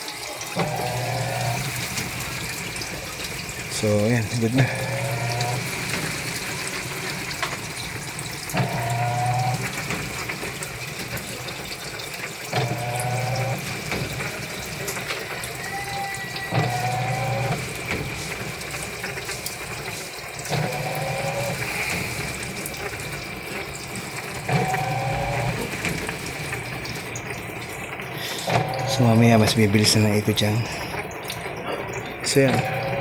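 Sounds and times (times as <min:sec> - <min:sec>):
washing machine motor humming: 0:00.0 - 0:33.0
water draining: 0:00.0 - 0:33.0.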